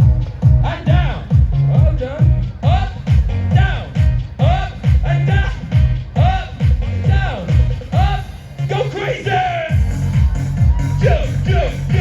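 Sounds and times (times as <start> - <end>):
upbeat music with heavy kick drum: 0.0 - 12.0.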